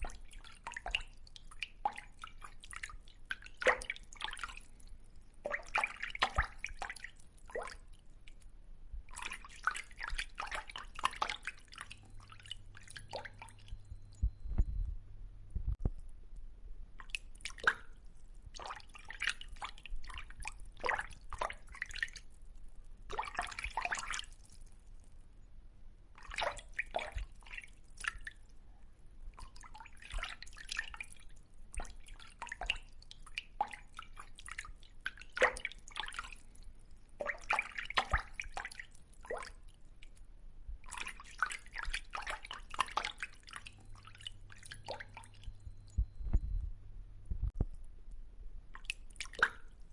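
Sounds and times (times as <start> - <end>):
wet clicking and dripping: 0.0 - 14.7, 15.7 - 25.2, 26.2 - 46.6, 47.4 - 49.9.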